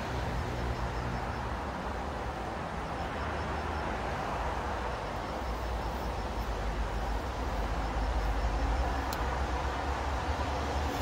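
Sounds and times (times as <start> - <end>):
even outdoor hiss: 0.0 - 11.0.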